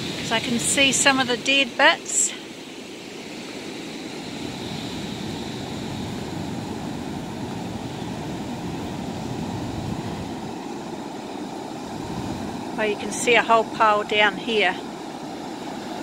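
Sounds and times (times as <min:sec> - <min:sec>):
waves breaking: 0:00.0 - 0:16.0.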